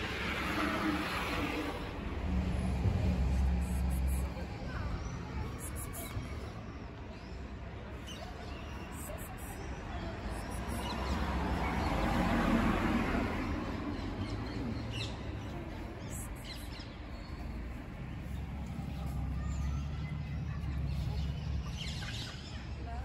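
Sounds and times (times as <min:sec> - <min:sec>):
vehicle passing by: 0:00.0 - 0:06.0, 0:10.1 - 0:22.8
low rumble of traffic: 0:00.0 - 0:23.0.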